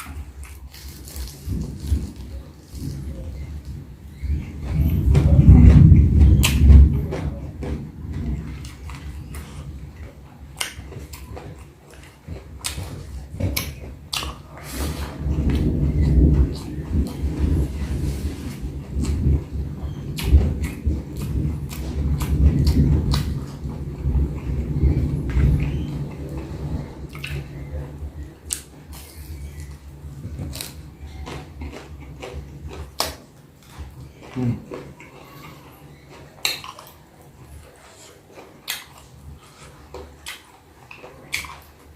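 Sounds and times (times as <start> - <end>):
person chewing food: 0.0 - 6.7, 7.3 - 41.9.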